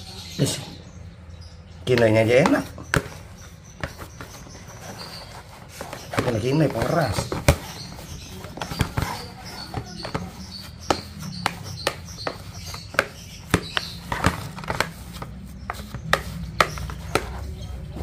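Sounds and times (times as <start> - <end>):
dough being stirred by hand: 1.8 - 18.0.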